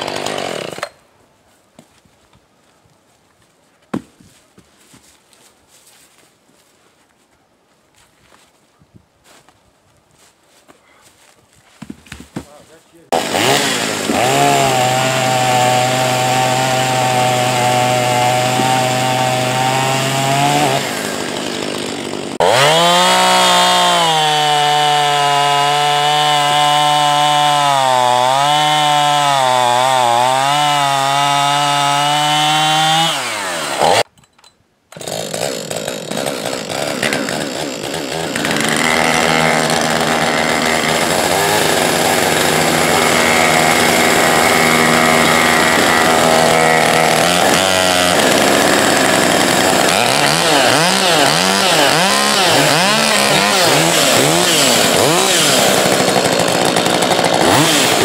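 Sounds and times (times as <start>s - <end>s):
chainsaws cutting logs: 0.0s - 1.0s, 11.8s - 34.1s, 34.9s - 58.0s.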